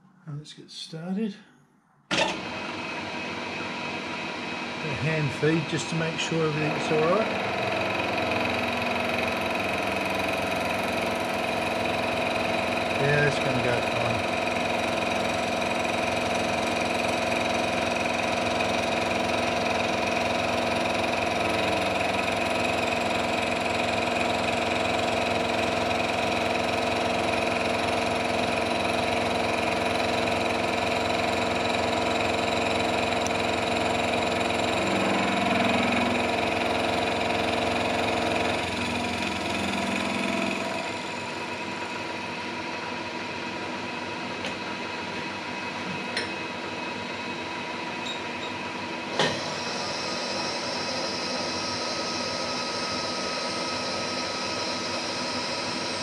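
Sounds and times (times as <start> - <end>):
milling machine cutting metal: 2.1 - 42.6, 48.0 - 56.0.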